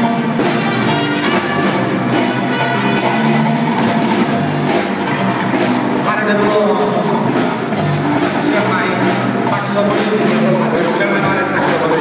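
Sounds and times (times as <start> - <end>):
brass and reed melody: 0.0 - 12.0
steady drum beat: 0.0 - 12.0.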